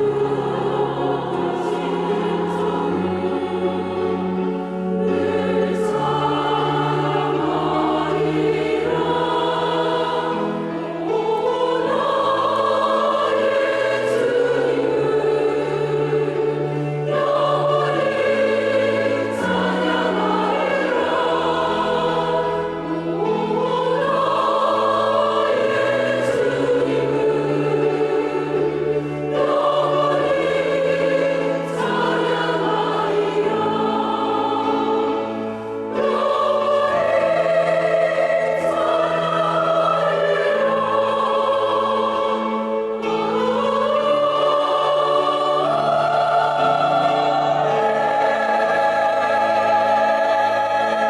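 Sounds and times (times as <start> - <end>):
church choir singing: 0.0 - 51.0.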